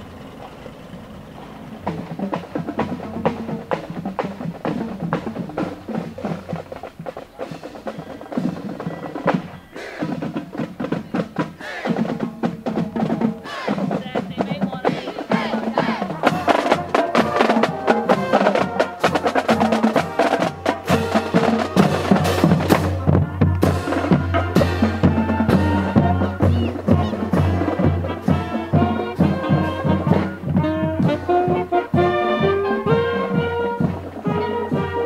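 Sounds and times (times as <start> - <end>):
marching band playing: 1.4 - 35.0
wind instruments: 1.4 - 35.0
bass drums and cymbals beating: 1.8 - 35.0.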